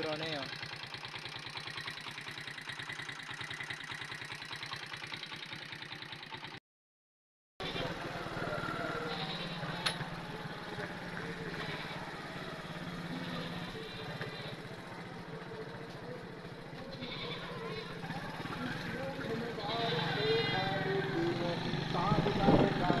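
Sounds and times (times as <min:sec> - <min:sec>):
motorcycle engine puttering: 0:00.0 - 0:06.6, 0:07.6 - 0:23.0.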